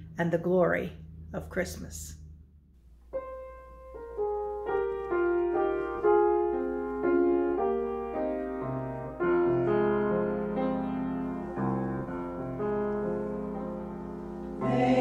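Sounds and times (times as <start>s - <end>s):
deep piano bass notes: 0.0s - 15.0s
slow gentle piano melody: 3.0s - 15.0s.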